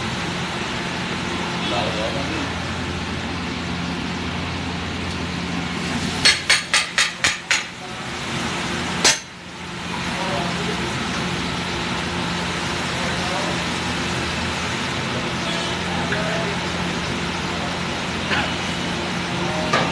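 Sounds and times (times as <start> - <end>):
steady background hum: 0.0 - 19.9.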